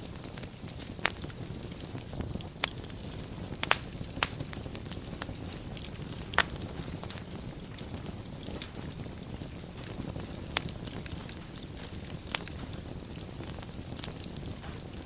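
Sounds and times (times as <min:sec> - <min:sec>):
fire rumbling: 0:00.0 - 0:15.0
wood fire crackling and popping: 0:00.0 - 0:15.0.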